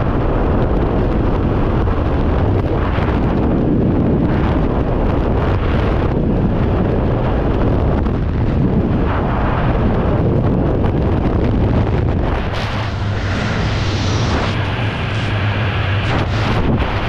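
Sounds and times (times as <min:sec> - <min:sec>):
freefall wind buffeting microphone: 0:00.0 - 0:17.0.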